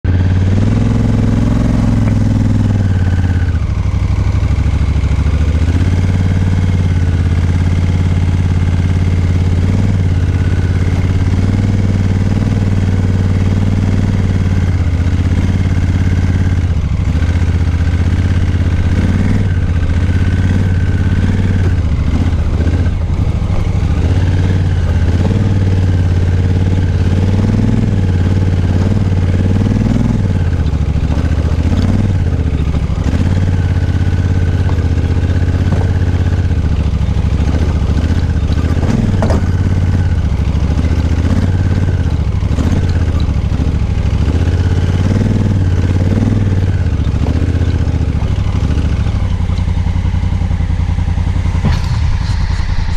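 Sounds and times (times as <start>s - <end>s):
motorcycle engine running steadily: 0.0s - 52.9s.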